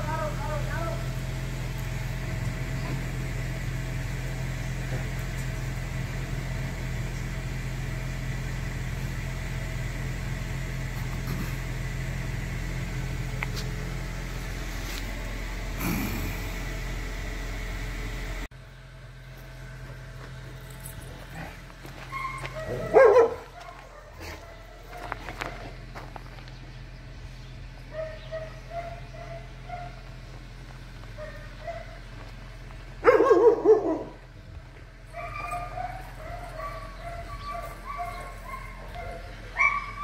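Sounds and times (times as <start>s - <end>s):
motor humming: 0.0s - 40.0s.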